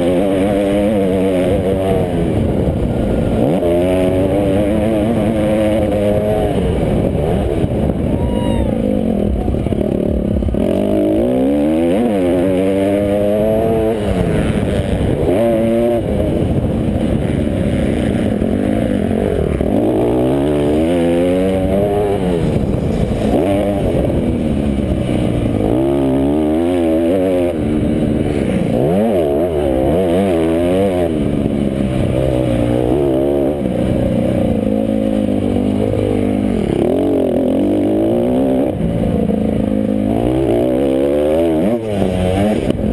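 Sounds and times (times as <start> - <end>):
motocross bikes revving: 0.0 - 42.9.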